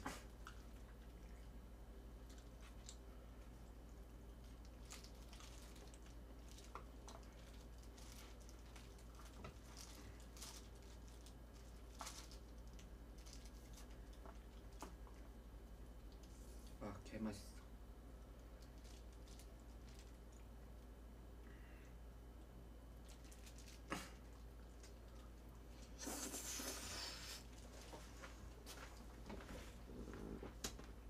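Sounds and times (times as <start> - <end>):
light clicks and crinkles of food handling: 0.0 - 21.1, 21.7 - 31.0
steady low hum: 0.0 - 31.0.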